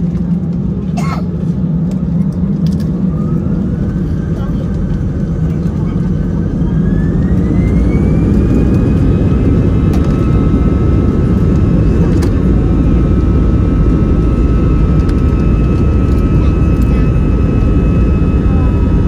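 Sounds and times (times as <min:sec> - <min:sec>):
jet engines spooling up: 0:00.1 - 0:19.0.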